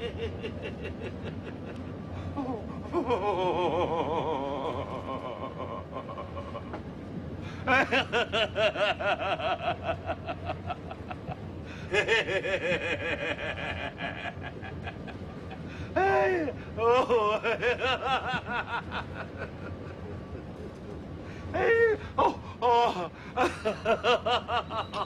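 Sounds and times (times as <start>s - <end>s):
man laughing hard: 0.0s - 20.8s, 21.4s - 25.0s
subway car rumble: 0.0s - 25.0s.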